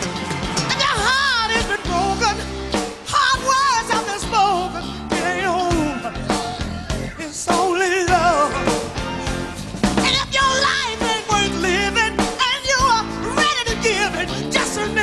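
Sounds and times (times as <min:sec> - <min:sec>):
drums: 0:00.0 - 0:15.0
electric guitar: 0:00.0 - 0:15.0
woman singing with vibrato: 0:00.6 - 0:09.0, 0:10.0 - 0:15.0.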